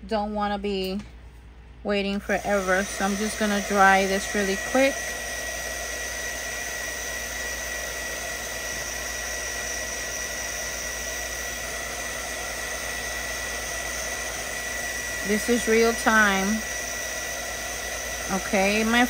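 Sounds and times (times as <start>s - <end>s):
hot-air dryer whining: 2.0s - 19.0s.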